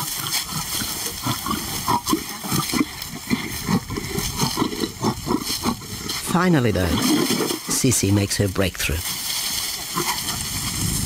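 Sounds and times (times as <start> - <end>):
lions growling: 0.0 - 7.8, 9.5 - 10.7.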